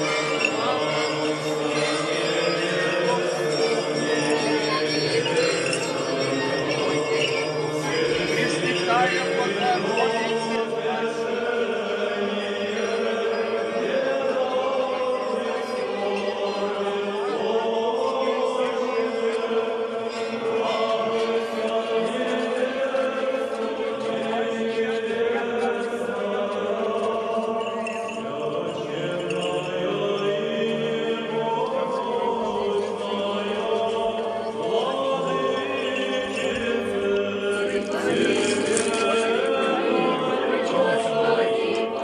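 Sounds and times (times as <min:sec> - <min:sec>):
group of voices chanting: 0:00.0 - 0:42.0.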